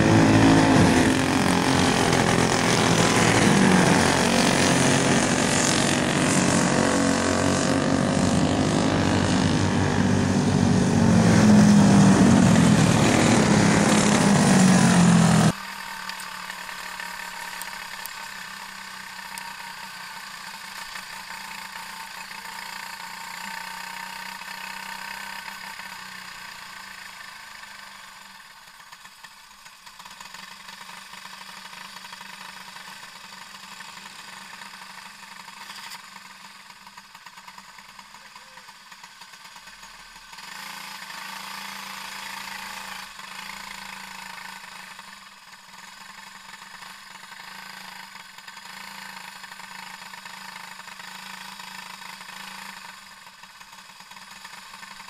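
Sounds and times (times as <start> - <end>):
kart engine idling: 0.0 - 55.0.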